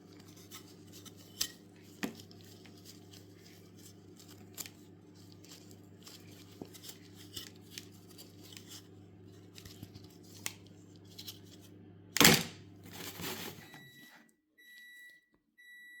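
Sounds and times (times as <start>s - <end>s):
background hum: 0.0s - 14.8s.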